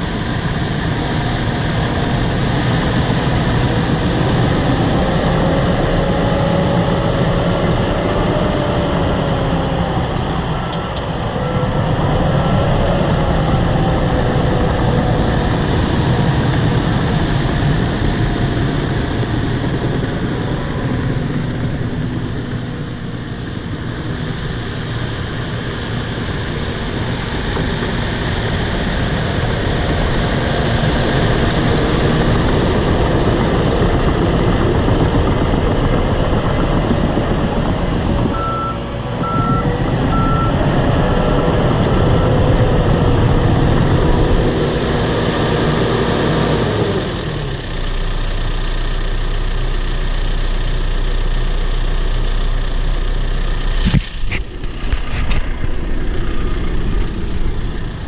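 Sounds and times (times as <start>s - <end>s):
wavering whine: 0.0s - 45.7s, 53.4s - 58.0s
diesel engine running: 0.0s - 58.0s.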